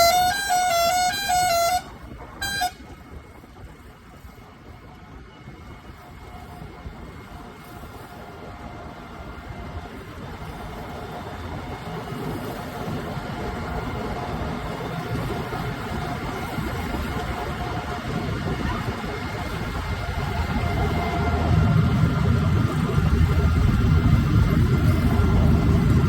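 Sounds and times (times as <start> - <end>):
diesel engine rumble with whine: 0.0 - 26.0.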